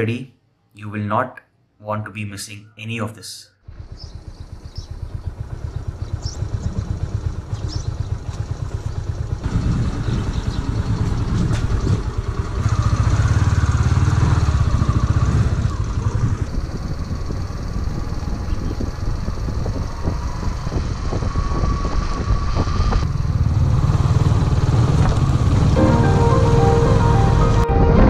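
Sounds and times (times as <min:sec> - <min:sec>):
motorcycle engine running: 0:03.7 - 0:26.2.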